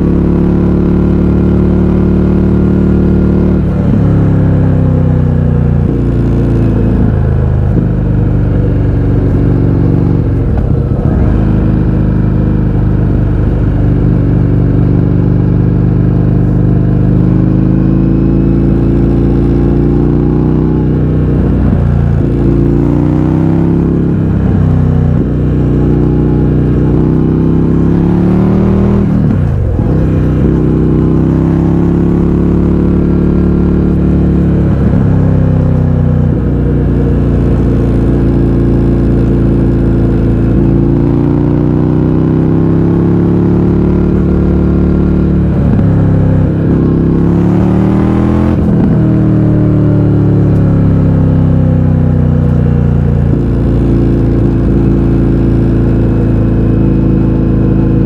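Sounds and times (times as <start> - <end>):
motorcycle engine revving loud: 0.0 - 58.0.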